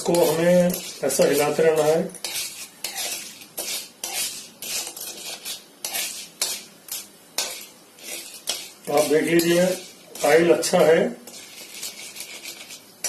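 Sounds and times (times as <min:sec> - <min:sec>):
popcorn kernels stirred in pan: 0:00.0 - 0:13.0.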